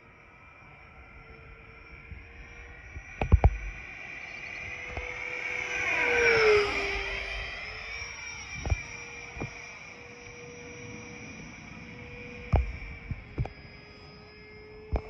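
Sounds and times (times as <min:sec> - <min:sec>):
jet fan whine: 0:00.0 - 0:15.0.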